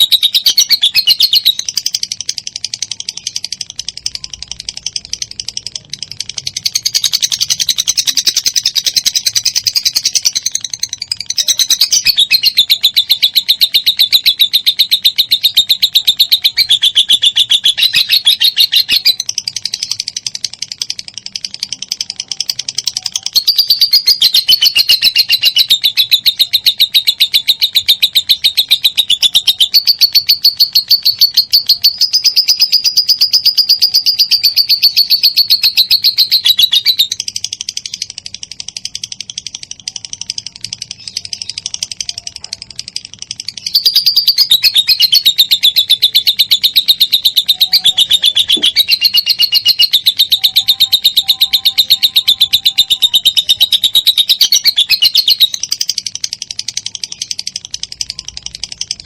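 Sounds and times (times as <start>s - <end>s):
bird shrill chattering trill: 0.0s - 59.0s.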